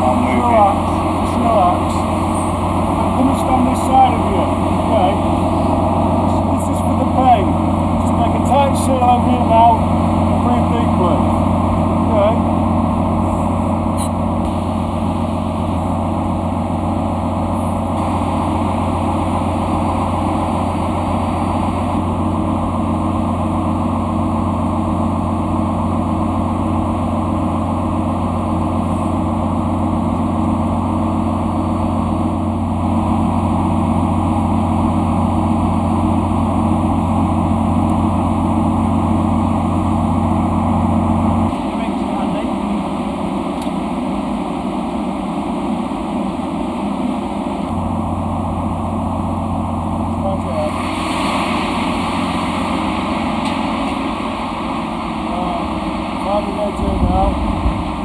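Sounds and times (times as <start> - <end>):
engine room machinery drone: 0.0 - 58.0.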